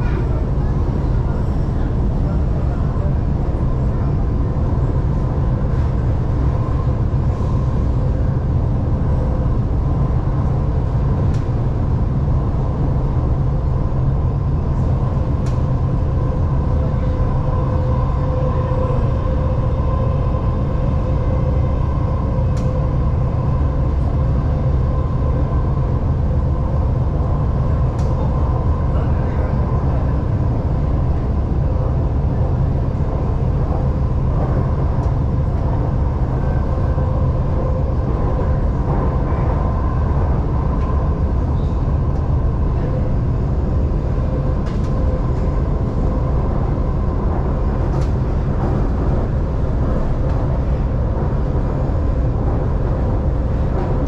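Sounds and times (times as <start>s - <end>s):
train wheels rumbling on rail: 0.0s - 54.0s
train whine: 0.0s - 54.0s.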